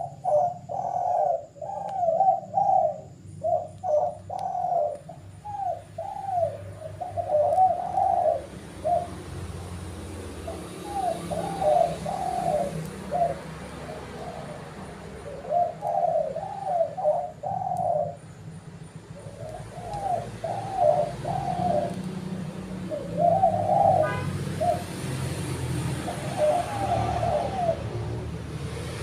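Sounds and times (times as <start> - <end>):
dove cooing: 0.0 - 29.0.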